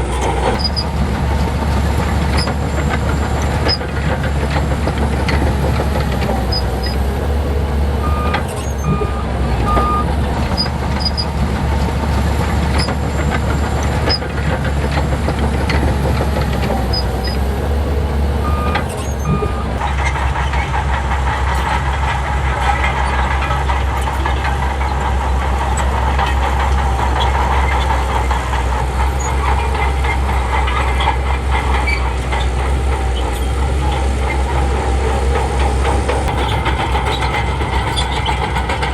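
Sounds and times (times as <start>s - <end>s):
heavy diesel engine running: 0.0s - 38.9s
steel tracks clattering: 0.0s - 38.9s.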